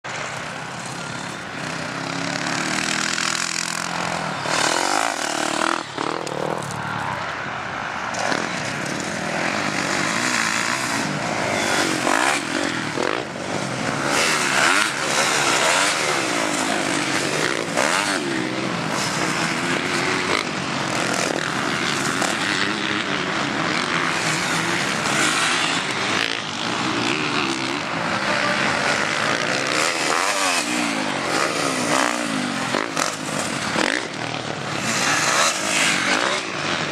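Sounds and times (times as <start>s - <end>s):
motocross bike engines revving: 0.1s - 36.9s.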